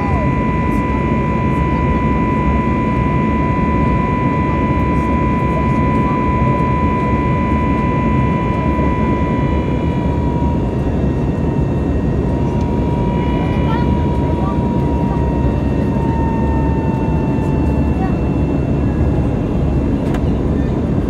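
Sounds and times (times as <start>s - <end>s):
high whine: 0.0s - 21.0s
jet engine and airflow rumble: 0.0s - 21.0s.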